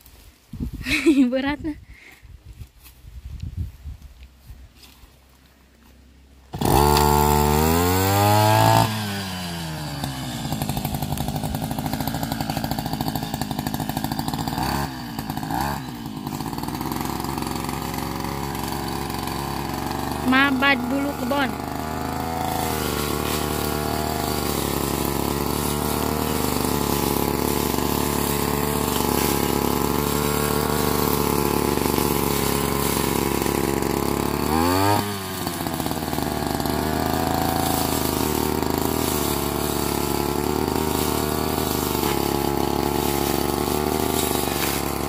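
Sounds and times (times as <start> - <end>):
small petrol engine running: 6.5 - 45.0.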